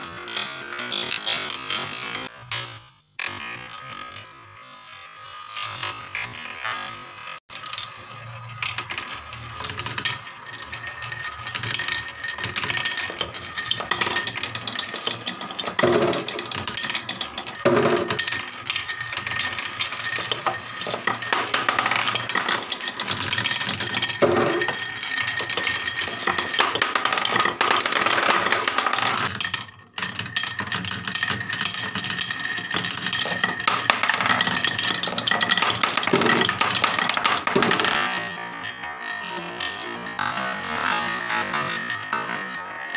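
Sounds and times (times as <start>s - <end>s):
marbles rolling on wooden track: 0.0s - 42.9s
marbles clicking together: 7.6s - 42.9s.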